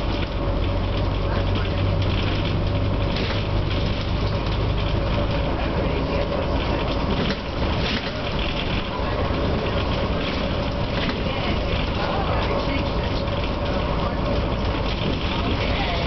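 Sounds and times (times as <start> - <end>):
bus engine drone: 0.0 - 16.0
road noise: 0.0 - 16.0.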